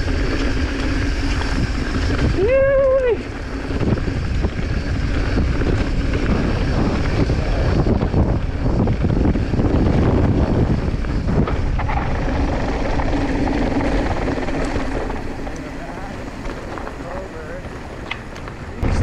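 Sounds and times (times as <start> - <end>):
bike rattling on rough trail: 0.0 - 19.0
steady low hum: 0.0 - 19.0
wind buffeting microphone: 0.0 - 19.0.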